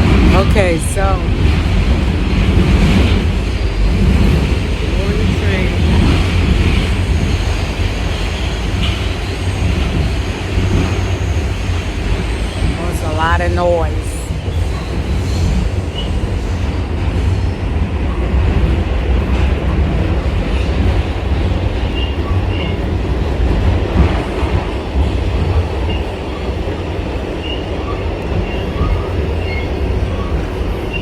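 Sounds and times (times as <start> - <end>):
train running gear rumble: 0.0 - 31.0.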